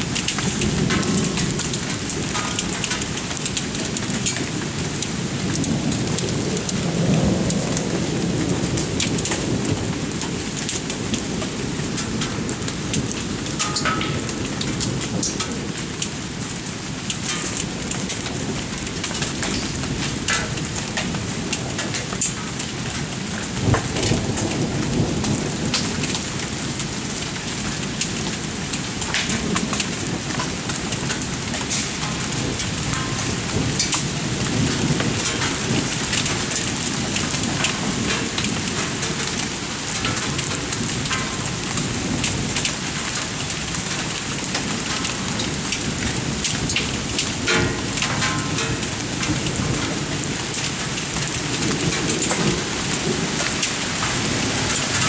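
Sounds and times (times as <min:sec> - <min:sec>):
hailstones striking hard surfaces: 0:00.0 - 0:55.0
heavy rain hissing: 0:00.0 - 0:55.0
thunder rumbling: 0:00.0 - 0:55.0.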